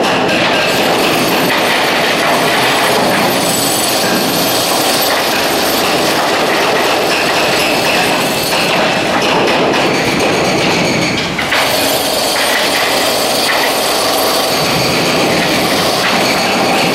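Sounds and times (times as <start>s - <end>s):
demolition machinery breaking concrete: 0.0s - 16.9s.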